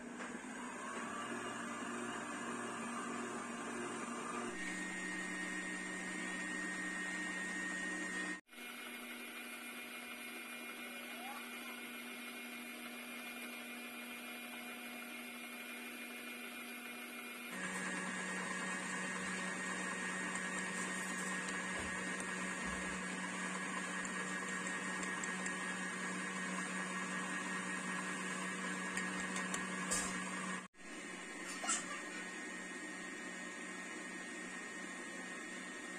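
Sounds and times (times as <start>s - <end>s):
stand mixer whirring: 0.0s - 35.9s.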